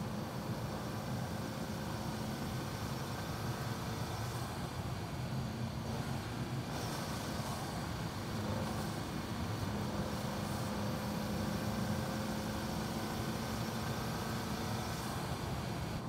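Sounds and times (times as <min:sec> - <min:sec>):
car engine cruising: 0:00.0 - 0:16.0
road and wind noise: 0:00.0 - 0:16.0.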